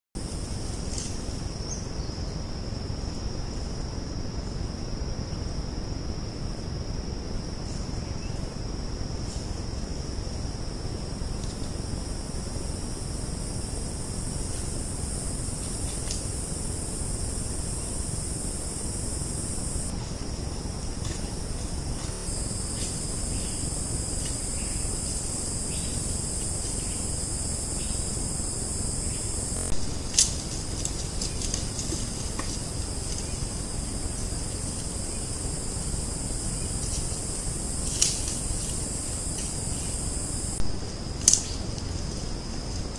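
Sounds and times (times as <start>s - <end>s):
low background hiss: 0.2s - 42.9s
shrill insect chorus: 0.2s - 42.9s.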